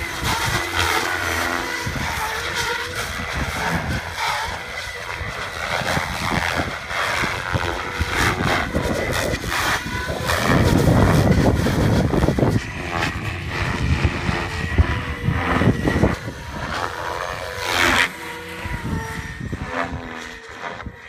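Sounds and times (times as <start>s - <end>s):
rc helicopter rotors and motor: 0.0s - 21.0s.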